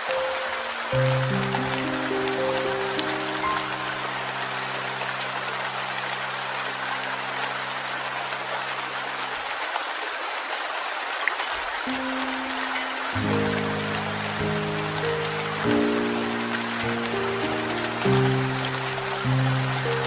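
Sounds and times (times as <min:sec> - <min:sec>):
soft music chords: 0:00.0 - 0:09.1, 0:11.9 - 0:20.0
steady rain falling: 0:00.0 - 0:20.0.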